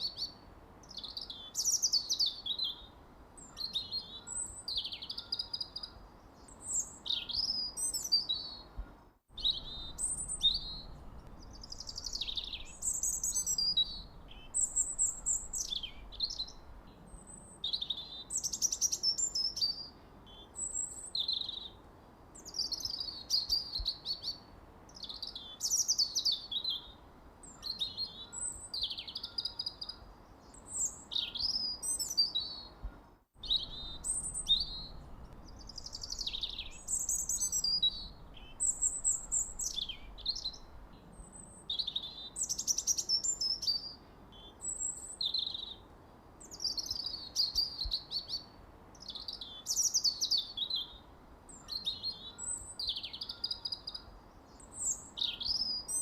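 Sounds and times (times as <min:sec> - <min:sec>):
songbirds chirping and singing: 0:00.0 - 0:21.8, 0:22.4 - 0:56.0
faint low background noise: 0:00.0 - 0:56.0.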